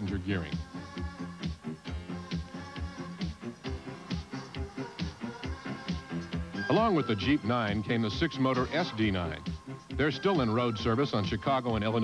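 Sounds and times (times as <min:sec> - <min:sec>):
background music with fast beat: 0:00.0 - 0:12.0.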